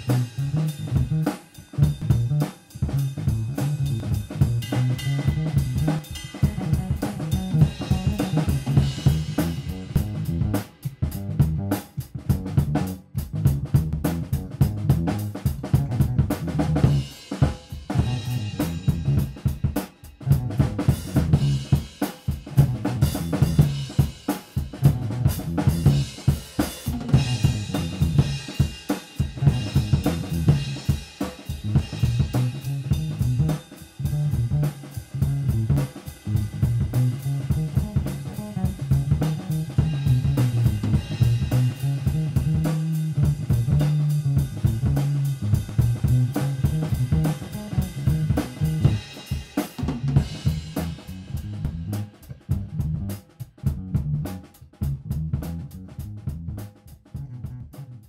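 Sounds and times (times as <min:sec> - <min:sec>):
music with drum-kit beat: 0:00.0 - 0:58.0.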